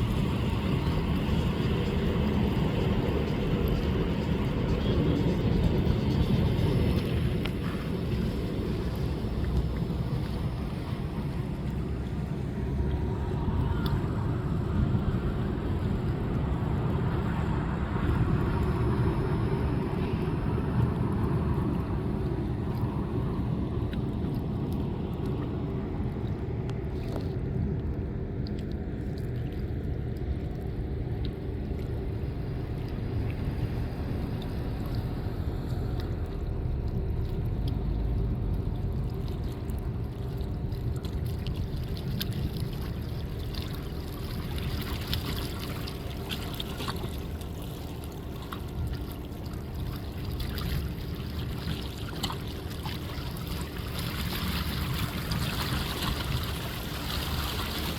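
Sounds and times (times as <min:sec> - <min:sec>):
steady low rumble: 0:00.0 - 0:57.9
water splashing and trickling: 0:00.0 - 0:57.9.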